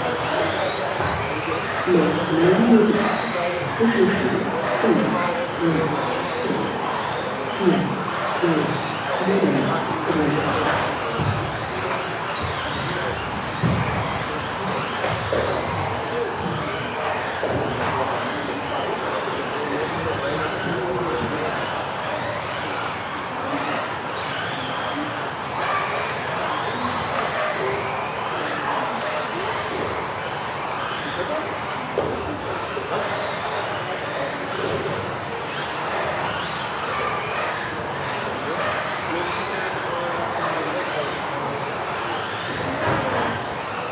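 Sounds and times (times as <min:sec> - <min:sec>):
rc car motor whine: 0:00.0 - 0:43.9
tyre and hall noise: 0:00.0 - 0:43.9.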